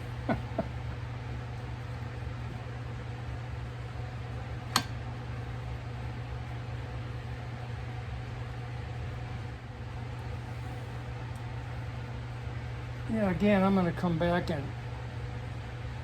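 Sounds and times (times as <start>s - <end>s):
workshop low hum: 0.0s - 16.0s.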